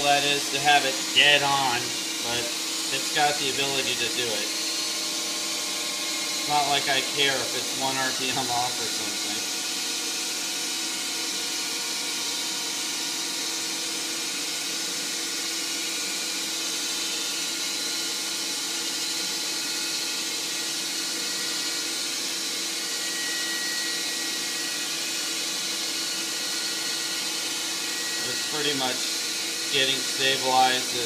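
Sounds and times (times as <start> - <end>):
lathe motor humming: 0.0 - 16.2, 18.4 - 31.0.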